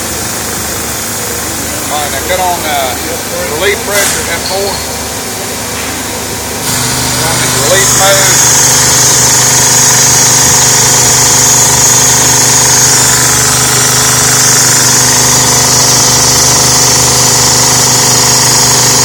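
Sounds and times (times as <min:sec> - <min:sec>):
pump machine hum with hiss: 0:00.0 - 0:19.0.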